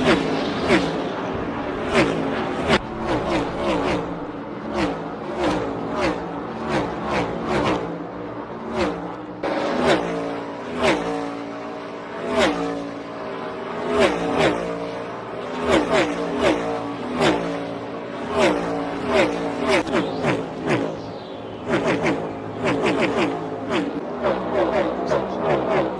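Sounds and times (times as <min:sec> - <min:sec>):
race cars passing at full throttle: 0:00.0 - 0:25.9.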